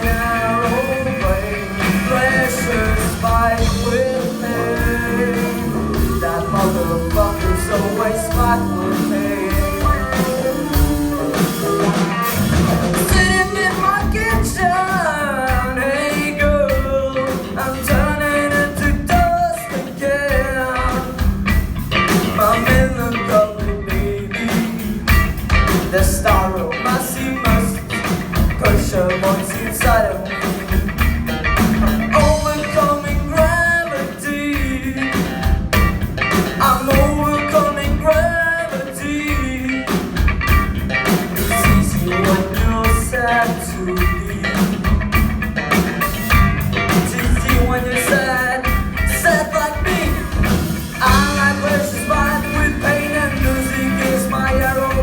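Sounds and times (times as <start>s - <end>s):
rock song with singing: 0.0s - 55.0s.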